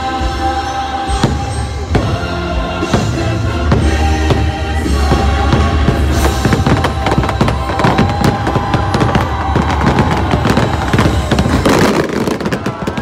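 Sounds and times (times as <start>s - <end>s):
fireworks bangs and crackles: 0.0s - 13.0s
music soundtrack: 0.0s - 13.0s.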